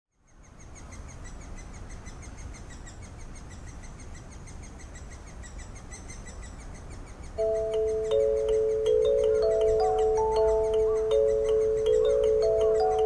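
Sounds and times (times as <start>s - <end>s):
nestlings chirping rapidly: 0.6s - 13.0s.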